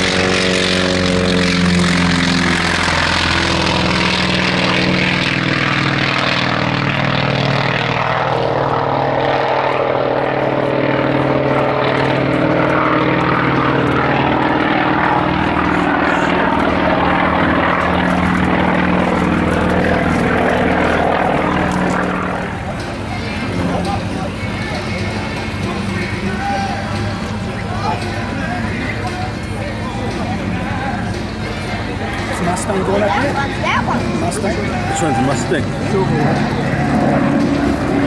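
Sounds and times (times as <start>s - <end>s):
propeller plane engine droning overhead: 0.0s - 38.0s.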